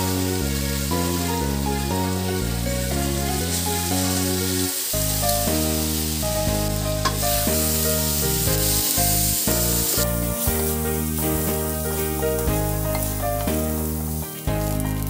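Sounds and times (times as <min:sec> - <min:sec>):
music with sustained chords: 0:00.0 - 0:15.0
rice sizzling in hot oil: 0:00.0 - 0:15.0.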